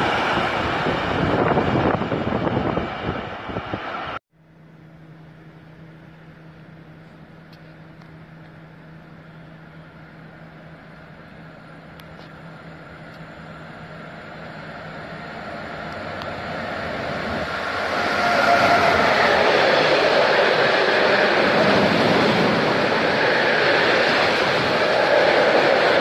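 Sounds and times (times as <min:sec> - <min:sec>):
freight train running: 0:00.0 - 0:26.0.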